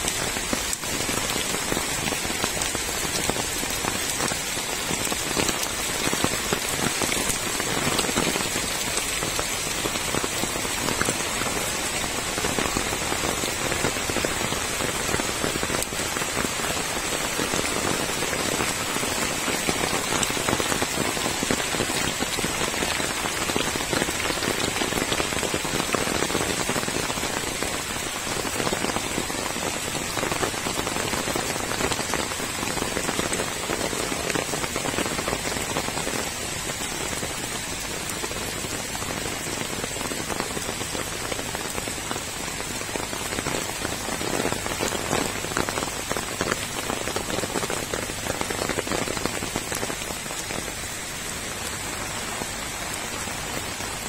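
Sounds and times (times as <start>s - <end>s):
heavy rain on paving: 0.0s - 54.0s.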